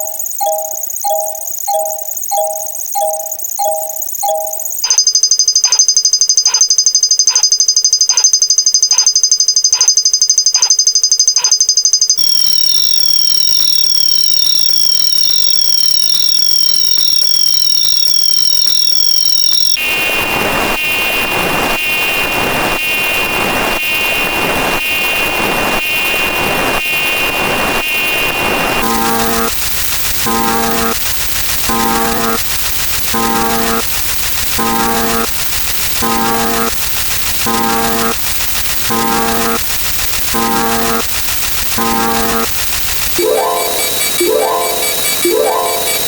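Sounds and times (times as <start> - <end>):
electronic alarm tones: 0.0 - 19.9, 28.8 - 46.0.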